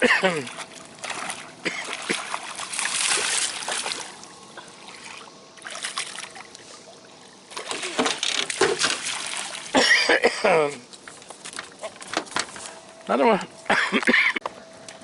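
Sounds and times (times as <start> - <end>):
water sloshing against boat: 0.0 - 14.6.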